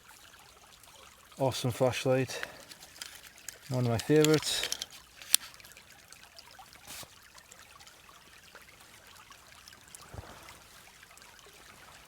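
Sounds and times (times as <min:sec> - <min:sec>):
small stream trickling: 0:00.0 - 0:12.0.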